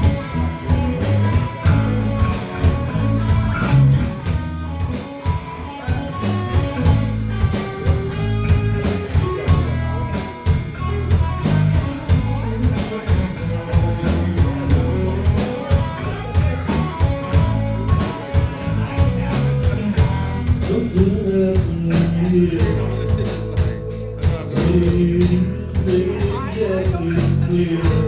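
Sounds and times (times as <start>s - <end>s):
bass guitar: 0.0s - 28.0s
drum kit beat: 0.0s - 28.0s
electric guitar: 0.0s - 28.0s.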